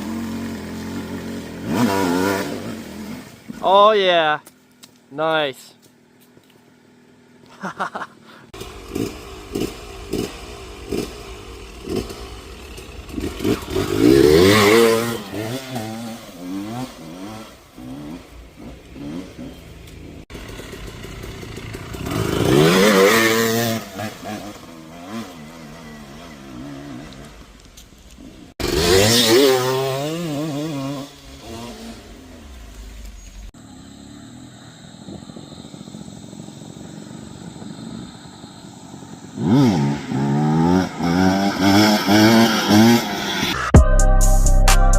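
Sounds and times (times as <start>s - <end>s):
dirt bike engine revving: 0.0s - 3.8s, 8.5s - 27.6s, 28.2s - 43.8s.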